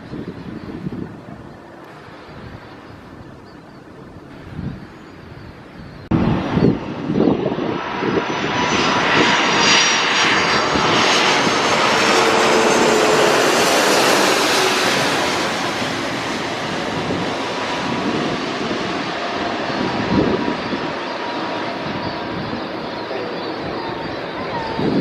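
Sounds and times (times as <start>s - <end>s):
airliner engines roaring: 0.0s - 25.0s.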